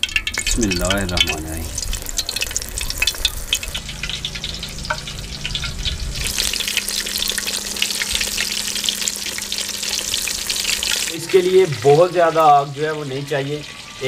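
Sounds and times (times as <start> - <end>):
battered vegetables deep-frying in oil: 0.0 - 14.0.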